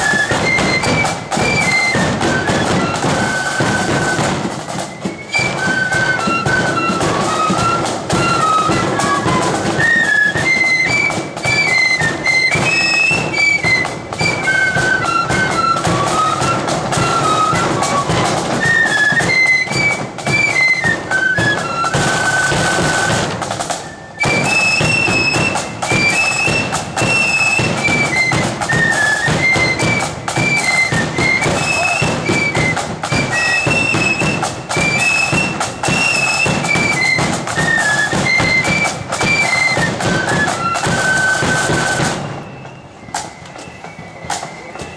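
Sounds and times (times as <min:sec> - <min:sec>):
side drums and bass drum: 0:00.0 - 0:42.4
flutes playing a tune: 0:00.0 - 0:44.9.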